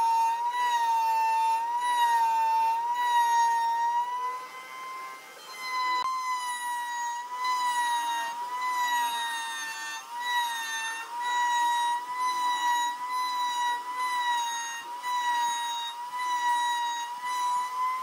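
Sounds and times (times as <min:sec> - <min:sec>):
router high whine: 0:00.0 - 0:18.0.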